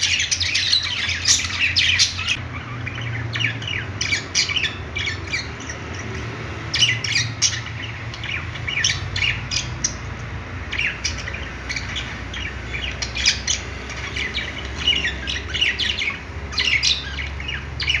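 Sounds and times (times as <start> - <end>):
budgerigars chirping: 0.0 - 18.0.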